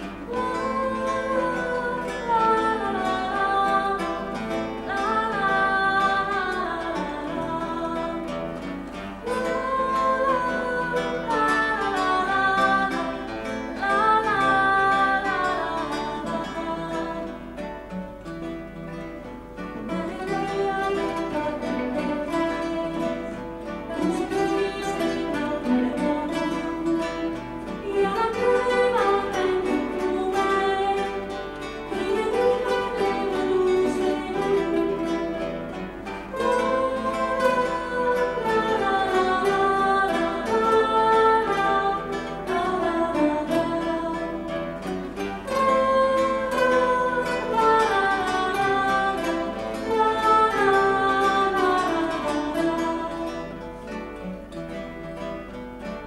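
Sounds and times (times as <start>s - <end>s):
woman singing: 0.0s - 17.7s, 19.8s - 53.9s
acoustic guitars playing: 0.0s - 56.0s.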